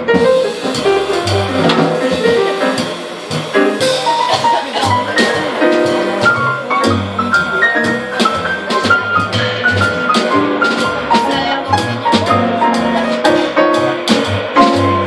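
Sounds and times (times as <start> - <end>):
acoustic piano: 0.0 - 15.0
upright double bass: 0.0 - 15.0.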